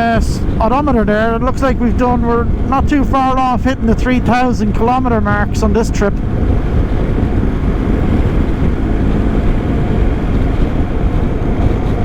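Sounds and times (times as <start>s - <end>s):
motorcycle engine drone: 0.0s - 12.0s
wind buffeting microphone: 0.0s - 12.0s.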